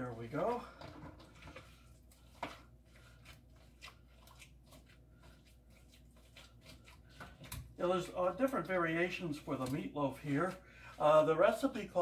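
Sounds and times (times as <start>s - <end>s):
hands kneading meat mixture: 0.0s - 12.0s.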